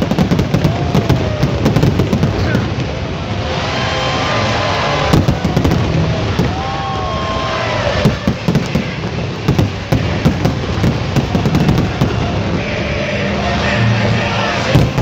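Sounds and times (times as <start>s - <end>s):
fireworks bangs and crackles: 0.0s - 15.0s
steady din: 0.0s - 15.0s.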